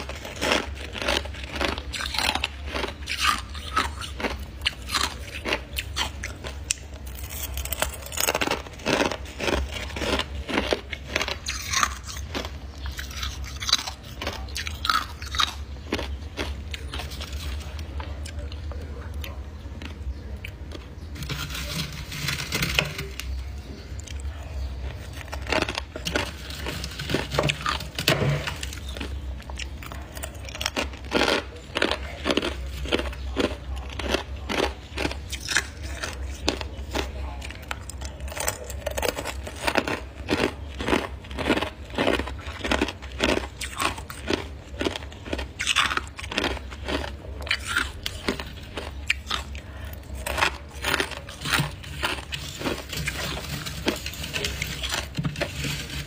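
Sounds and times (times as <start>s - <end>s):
rhythmic crunching: 0.0s - 56.0s.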